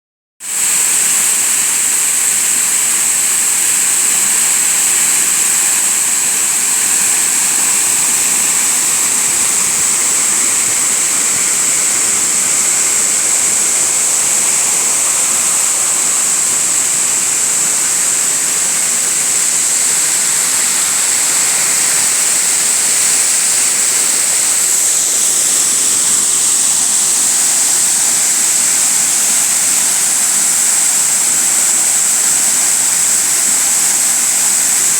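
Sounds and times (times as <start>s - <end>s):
waterfall rushing: 0.5s - 34.9s.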